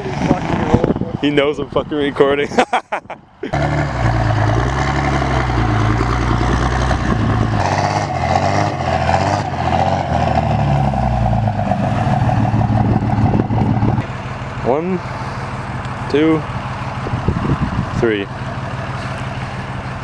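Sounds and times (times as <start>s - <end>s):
pickup truck engine rumbling: 0.0s - 20.0s.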